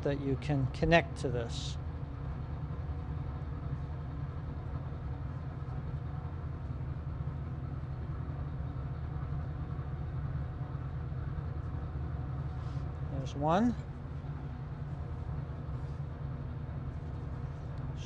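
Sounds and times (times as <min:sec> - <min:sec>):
fan humming: 0:00.0 - 0:18.0.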